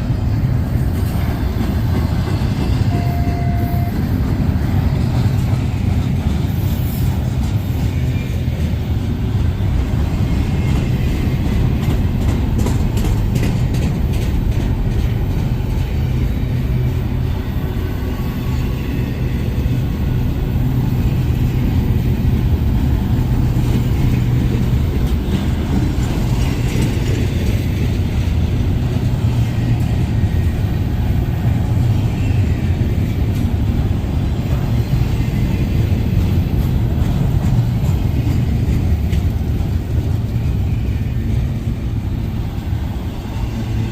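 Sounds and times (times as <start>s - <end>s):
freight train rumbling past: 0.0s - 43.9s
wheels clacking over rail joints: 0.0s - 43.9s.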